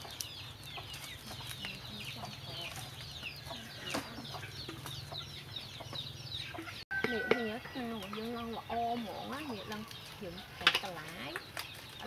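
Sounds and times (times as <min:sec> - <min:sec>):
chicken clucking: 0:00.0 - 0:11.0
chicks peeping: 0:00.0 - 0:12.0.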